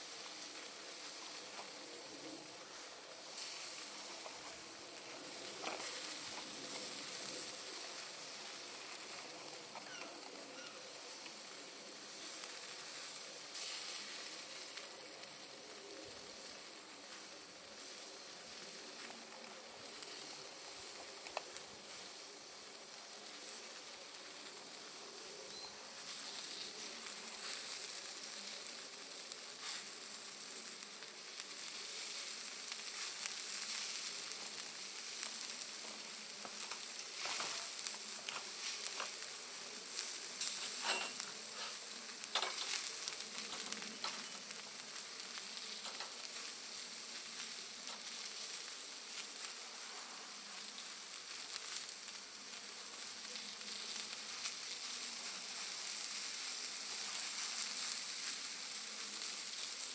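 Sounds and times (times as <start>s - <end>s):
fire hissing and crackling: 0.0s - 59.9s.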